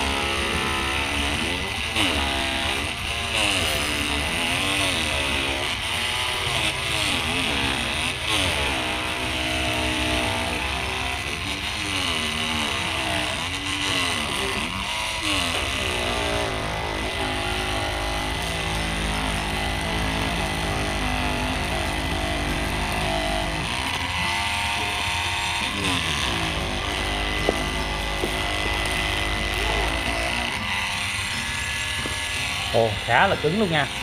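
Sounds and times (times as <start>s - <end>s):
oscillating multi-tool sawing husk: 0.0s - 34.0s.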